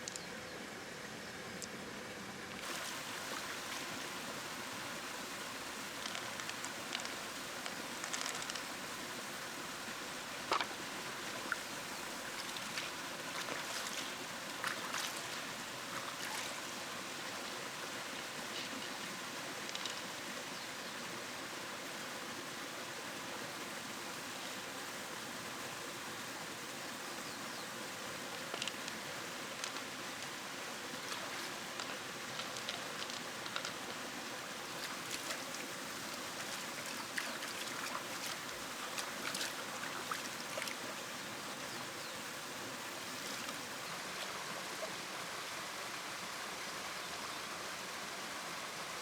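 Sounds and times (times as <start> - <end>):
river water rushing: 2.6 - 49.0.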